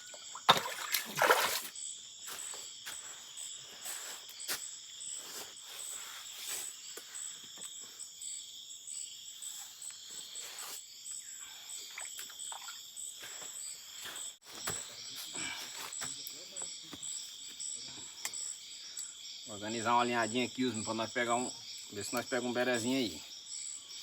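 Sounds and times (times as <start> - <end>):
insects buzzing and trilling: 0.0 - 24.0.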